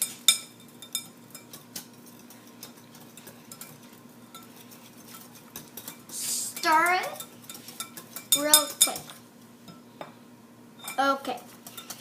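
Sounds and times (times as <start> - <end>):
whisk clinking against container: 0.0 - 9.8, 10.8 - 12.0
whisk stirring pudding: 0.0 - 9.8, 10.8 - 12.0.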